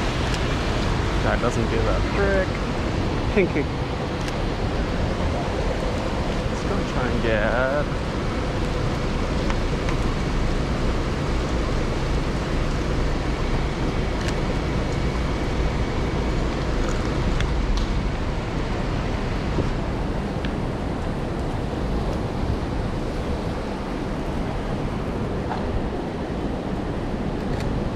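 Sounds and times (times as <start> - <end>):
heavy rain: 0.0 - 27.9
street traffic: 0.0 - 27.9.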